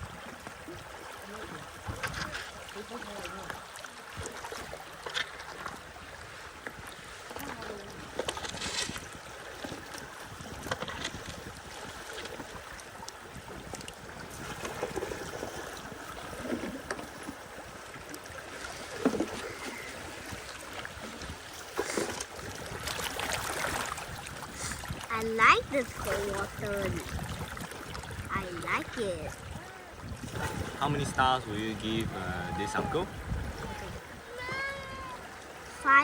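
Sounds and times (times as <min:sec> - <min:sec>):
river water rushing: 0:00.0 - 0:10.7, 0:11.4 - 0:36.0
water splashes: 0:00.0 - 0:36.0.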